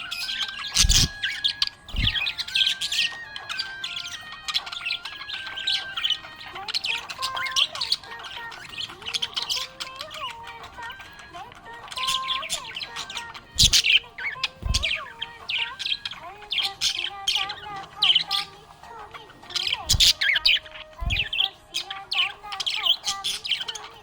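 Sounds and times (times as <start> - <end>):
budgerigar chirping: 0.0 - 11.2, 11.8 - 24.0
background music: 0.0 - 24.0.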